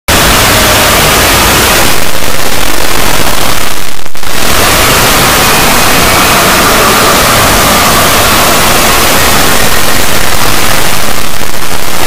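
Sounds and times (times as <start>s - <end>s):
loud distorted static noise: 0.1s - 12.0s.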